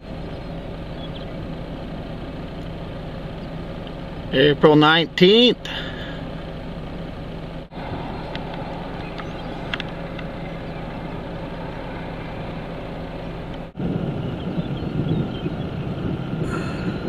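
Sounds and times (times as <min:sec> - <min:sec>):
faint hum: 0:00.0 - 0:17.0
rough engine rumble: 0:00.0 - 0:17.0
vehicle engine idling: 0:00.0 - 0:17.0.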